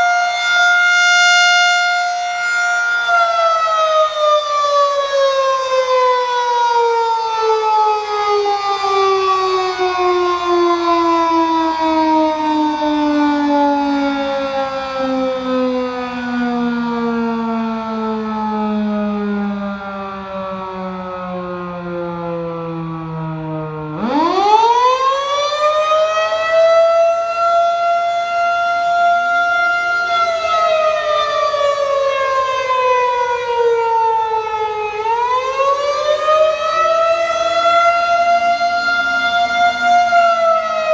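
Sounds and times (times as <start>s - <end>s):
wailing warning siren: 0.0s - 40.9s.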